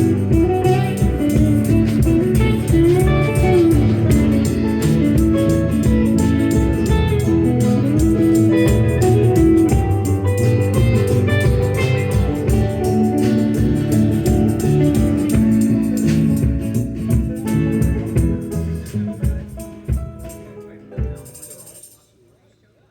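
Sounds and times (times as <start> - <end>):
sliding guitar note: 0.0 - 19.2
live band playing blues: 0.0 - 21.7.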